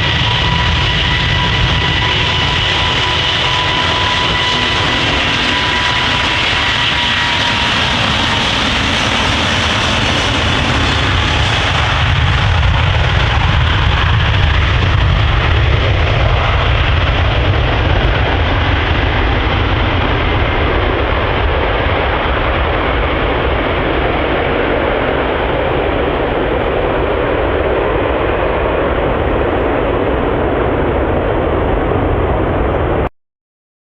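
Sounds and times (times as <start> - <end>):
helicopter rotor and engine: 0.0 - 33.1.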